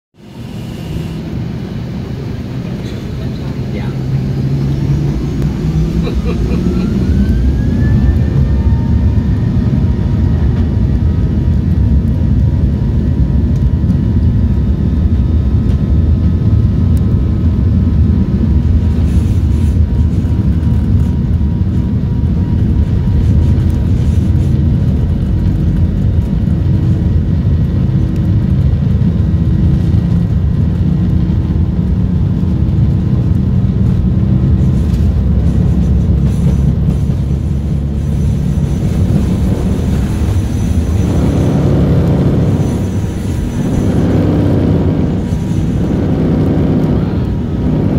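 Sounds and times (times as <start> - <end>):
airliner rumbling on runway: 0.1 - 47.9
jet engines spooling up: 0.2 - 28.3, 33.8 - 47.9.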